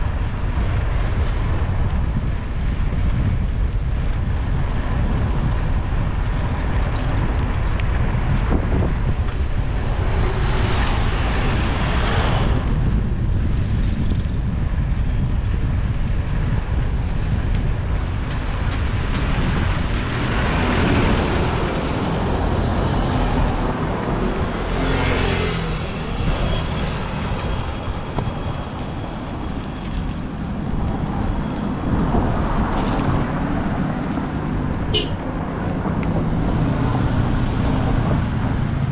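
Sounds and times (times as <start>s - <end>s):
traffic rumble: 0.0s - 38.9s
vehicles passing: 0.0s - 38.9s.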